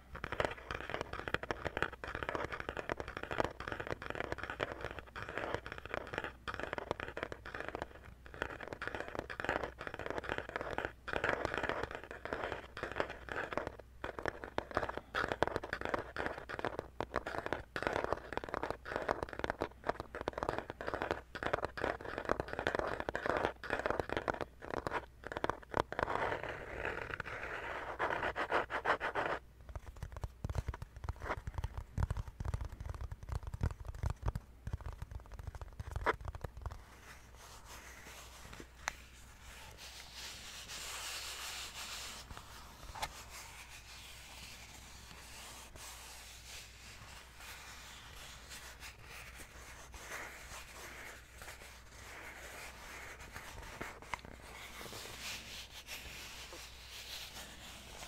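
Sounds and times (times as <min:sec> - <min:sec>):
tapping and scratching on plastic: 0:00.0 - 0:40.1, 0:40.8 - 0:58.0.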